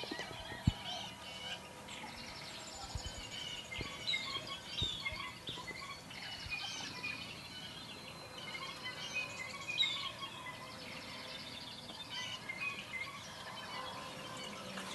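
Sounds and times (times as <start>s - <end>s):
birds calling and chirping: 0.0s - 14.9s.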